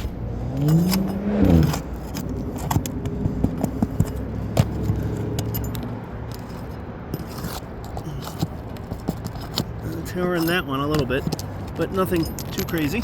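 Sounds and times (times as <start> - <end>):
metal tool scraping shingles: 0.0 - 13.0.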